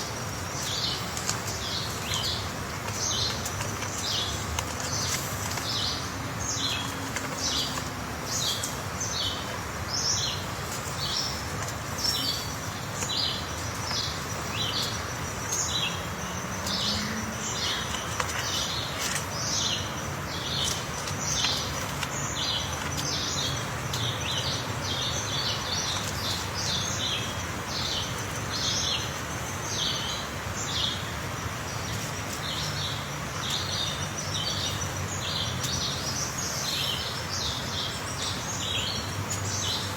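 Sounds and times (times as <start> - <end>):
birds chirping: 0.0 - 39.9
steady background hiss: 0.0 - 39.9.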